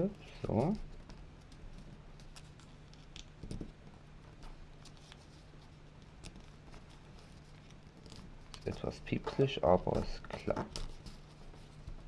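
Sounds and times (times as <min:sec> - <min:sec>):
low steady hum: 0:00.0 - 0:12.0
paper rustling and clicking: 0:00.4 - 0:12.0.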